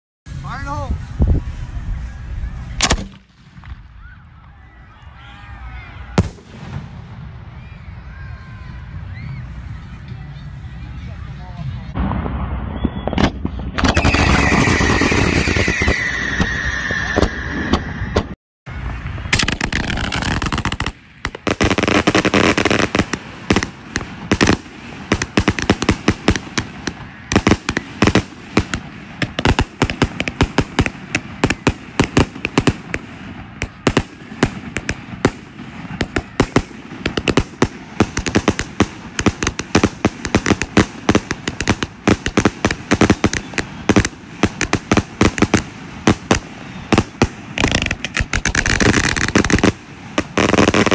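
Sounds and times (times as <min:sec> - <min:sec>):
fireworks crackling and popping: 0:00.3 - 0:50.9.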